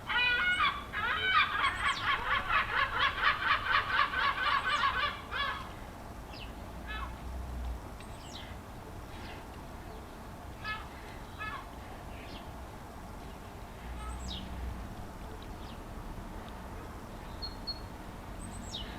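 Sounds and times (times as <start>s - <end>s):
birds calling: 0.0s - 7.2s, 8.0s - 14.6s, 15.2s - 18.9s.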